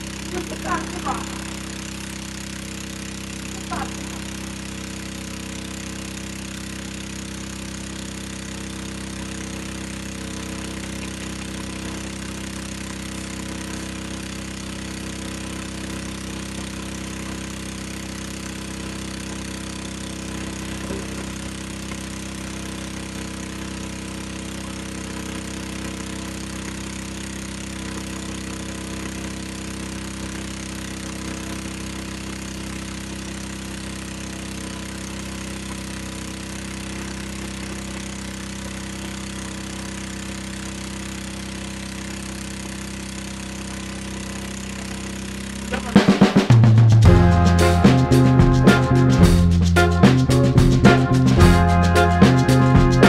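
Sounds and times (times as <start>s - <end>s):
small engine droning: 0.0s - 53.0s.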